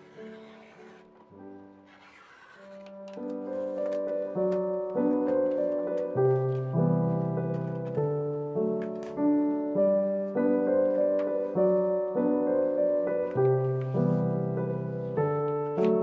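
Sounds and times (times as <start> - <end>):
calm piano melody: 0.0 - 16.0.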